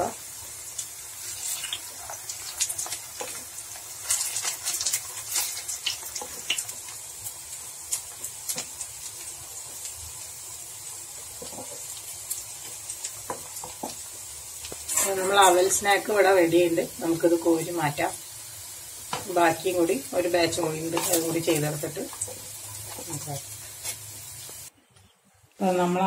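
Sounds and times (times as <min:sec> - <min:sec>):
oil crackling and popping: 0:00.0 - 0:16.2, 0:17.0 - 0:24.7
oil sizzling in a pan: 0:00.0 - 0:24.7.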